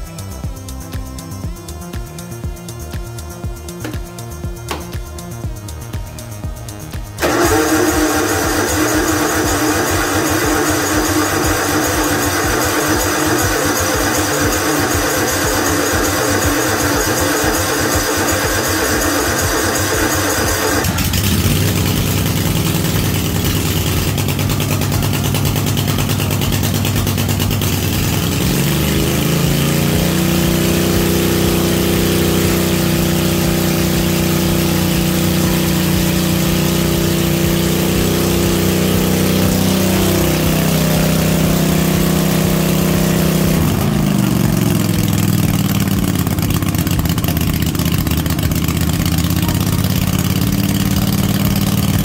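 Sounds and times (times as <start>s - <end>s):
mower engine running: 0.0s - 52.0s.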